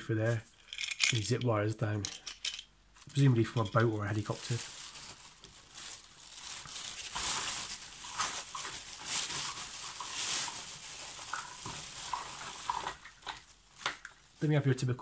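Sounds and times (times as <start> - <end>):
rummaging through toys and bag: 0.2 - 1.4, 2.0 - 14.4.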